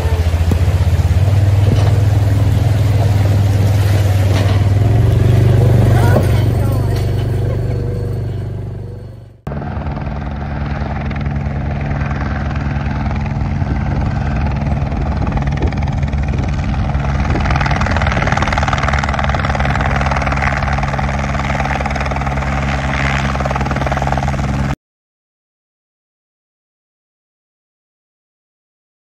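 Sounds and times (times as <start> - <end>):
helicopter rotor and engine: 0.0 - 24.8.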